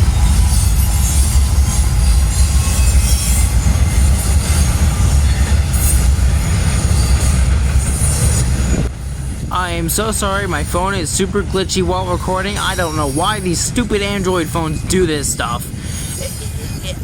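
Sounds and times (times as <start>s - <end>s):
train wheels squealing: 0.0s - 9.5s, 11.9s - 17.0s
freight train rumbling past: 0.0s - 17.0s.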